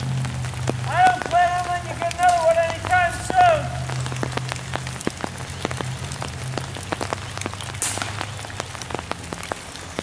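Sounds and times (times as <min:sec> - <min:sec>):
rain dripping onto leaves: 0:00.0 - 0:10.0
soft rain hiss: 0:00.0 - 0:10.0.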